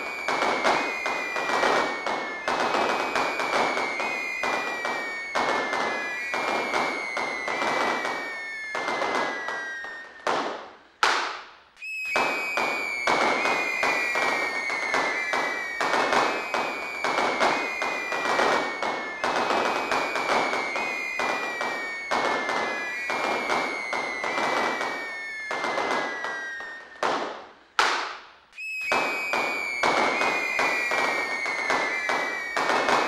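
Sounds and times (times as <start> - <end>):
falling whistles: 0.0 - 10.3, 11.8 - 27.1, 28.6 - 33.0
fireworks bangs and crackles: 0.0 - 33.0.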